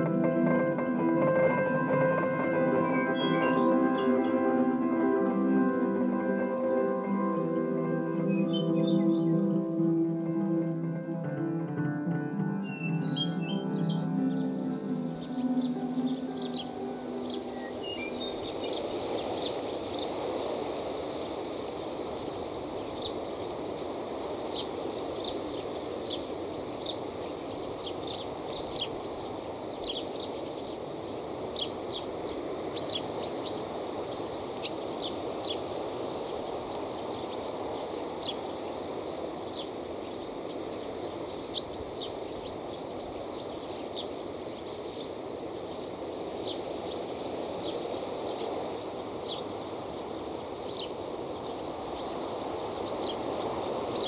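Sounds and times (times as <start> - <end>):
birds chirping: 0.0 - 20.8, 21.7 - 54.0
steady rushing background noise: 0.0 - 54.0.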